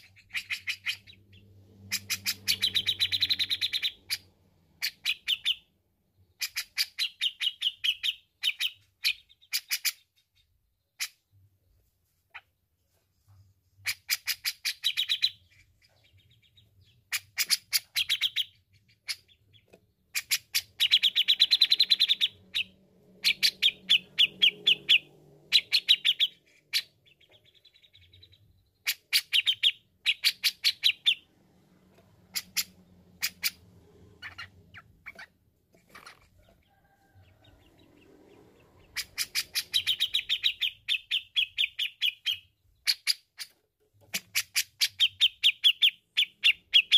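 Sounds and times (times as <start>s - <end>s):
bird chattering song: 0.0s - 11.4s, 13.8s - 31.3s, 32.2s - 46.9s.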